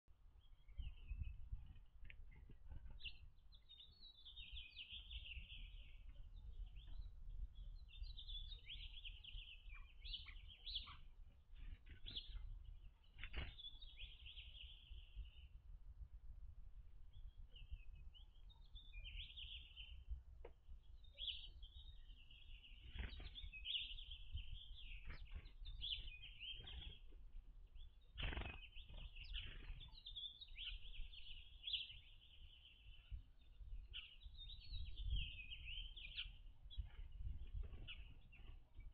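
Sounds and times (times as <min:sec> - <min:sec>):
songbirds chirping: 0:00.1 - 0:38.9.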